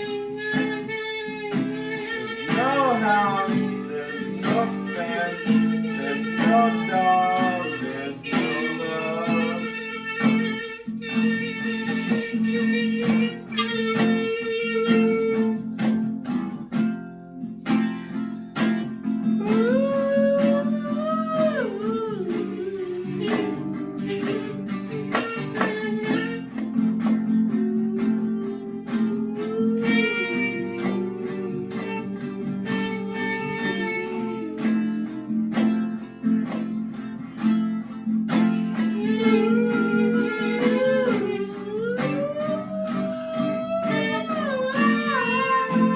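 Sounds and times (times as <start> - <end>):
guitar strumming chords: 0.0 - 45.9.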